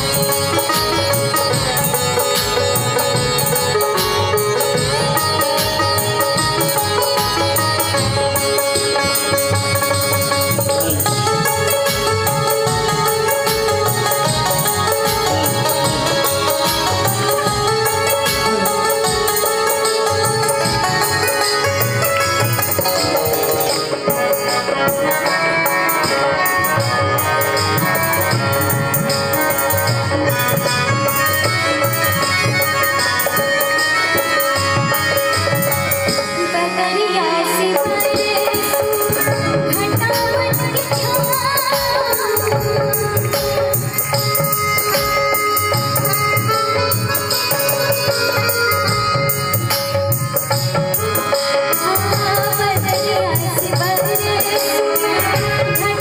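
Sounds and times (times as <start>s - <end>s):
percussion beat: 0.0s - 36.5s, 37.6s - 56.0s.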